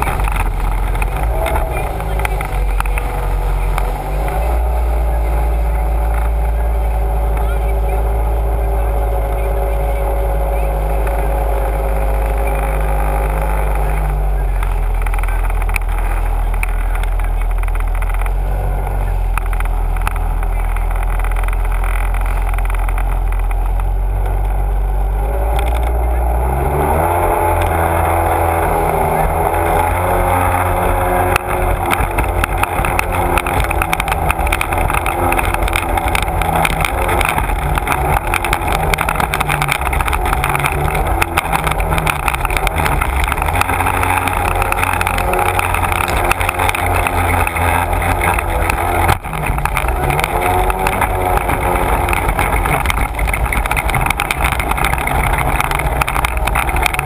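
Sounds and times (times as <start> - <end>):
personal watercraft engine: 0.0 - 57.0
water rushing and slapping hull: 0.0 - 57.0.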